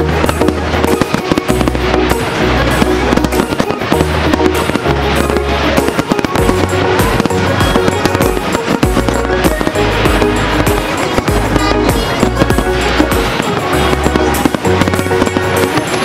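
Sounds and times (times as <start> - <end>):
fireworks bursting: 0.0 - 16.0
music with deep bass line: 0.0 - 16.0.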